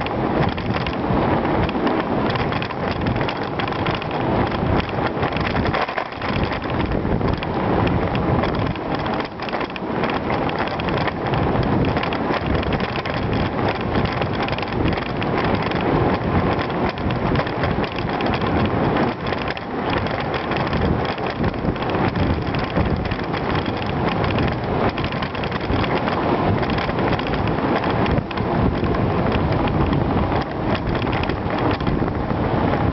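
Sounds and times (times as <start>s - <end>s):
bicycle tyre rumble and rattle: 0.0s - 32.9s
wind buffeting microphone: 0.0s - 32.9s.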